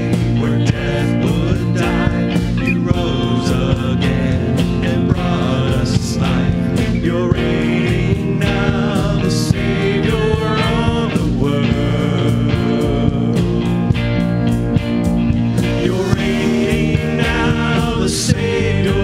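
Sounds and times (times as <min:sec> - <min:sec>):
people singing: 0:00.0 - 0:14.1, 0:15.4 - 0:19.0
rock band playing: 0:00.0 - 0:19.0.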